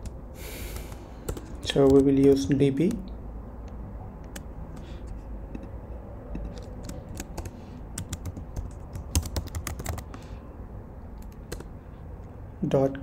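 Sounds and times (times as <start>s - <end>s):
keyboard typing: 0.0s - 10.3s, 11.1s - 12.3s.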